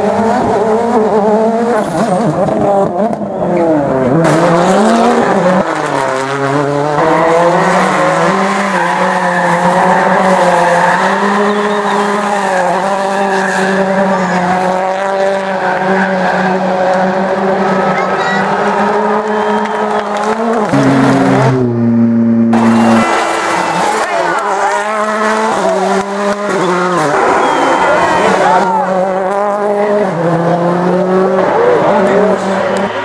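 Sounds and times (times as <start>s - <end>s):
rally car engine at high revs: 0.0s - 33.0s.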